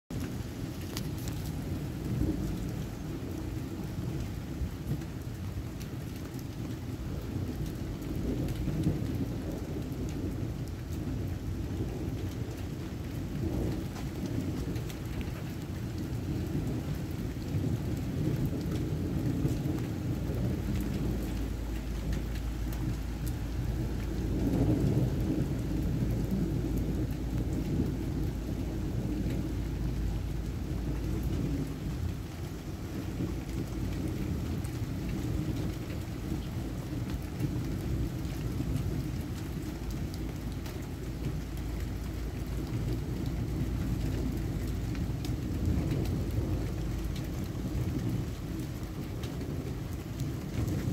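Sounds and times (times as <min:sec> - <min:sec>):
steady rain pouring: 0:00.1 - 0:50.9
thunder rumbling: 0:00.1 - 0:50.9.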